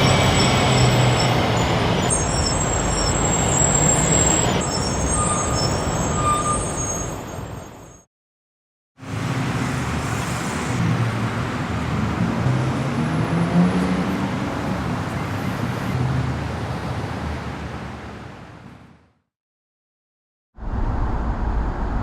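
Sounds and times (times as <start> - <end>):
steady road noise: 0.0 - 8.0, 9.0 - 19.2, 20.6 - 22.0.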